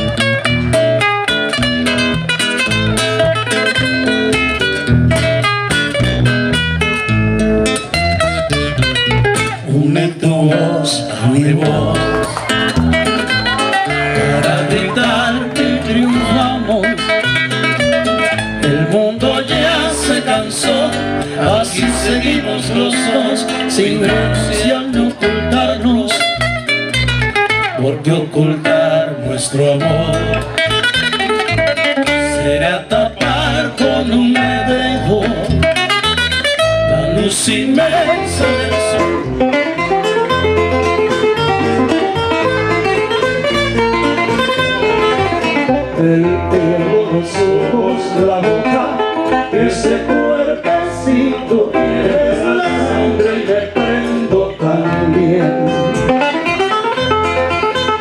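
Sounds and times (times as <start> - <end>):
acoustic guitars playing: 0.0 - 58.0
bass line: 0.0 - 58.0.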